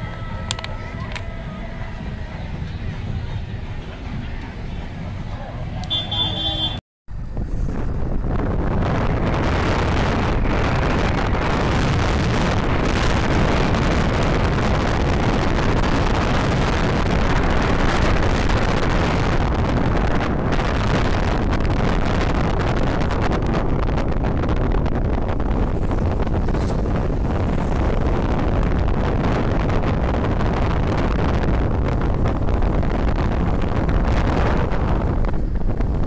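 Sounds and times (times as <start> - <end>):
road and engine noise: 0.0 - 36.0
wind buffeting microphone: 7.1 - 36.0.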